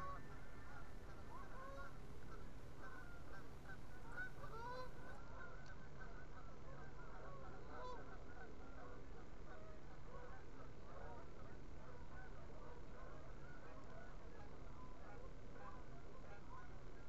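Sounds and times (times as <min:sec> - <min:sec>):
geese honking: 0:00.0 - 0:16.8.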